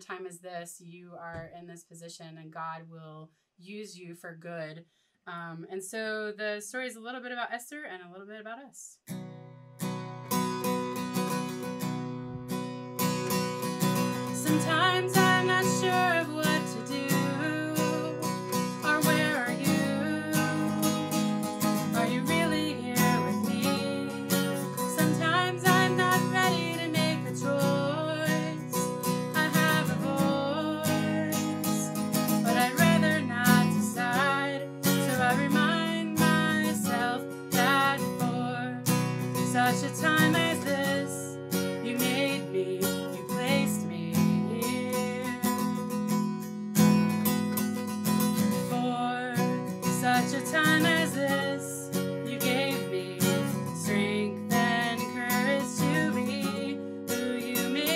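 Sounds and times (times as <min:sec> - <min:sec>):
acoustic guitar strummed: 0:09.1 - 0:57.9.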